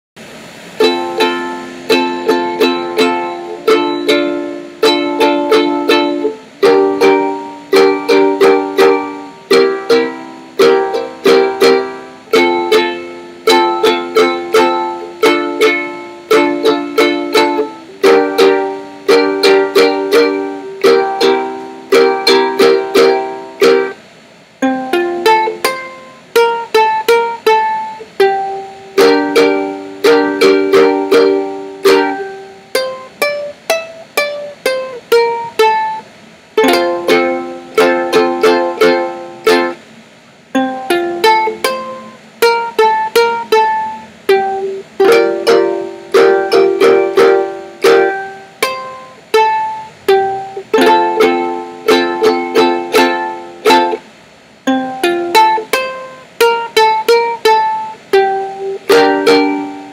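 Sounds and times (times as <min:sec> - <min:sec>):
ukulele strumming chords: 0:00.2 - 0:59.9.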